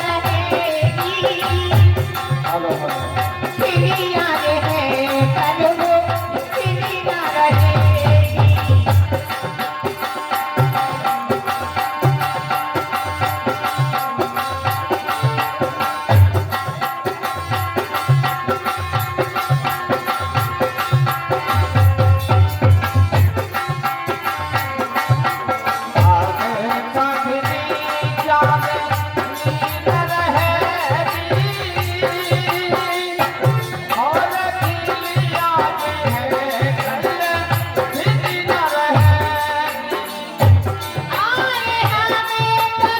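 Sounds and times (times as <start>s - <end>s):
hand drum rhythm: 0.0s - 42.9s.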